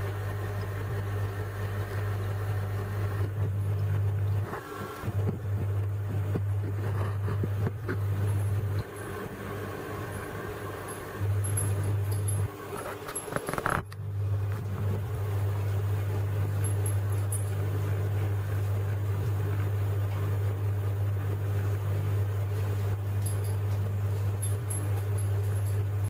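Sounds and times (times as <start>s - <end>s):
aquarium pump humming: 0.0s - 26.0s.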